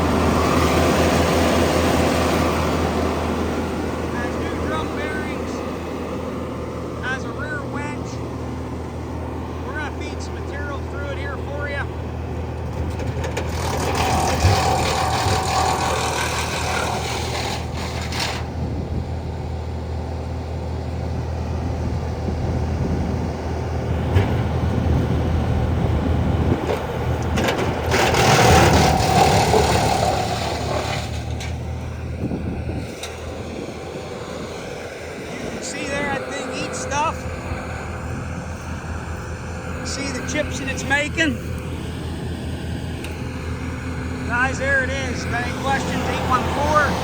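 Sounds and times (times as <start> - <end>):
wood chipper chipping wood: 0.0 - 22.2, 26.6 - 47.0.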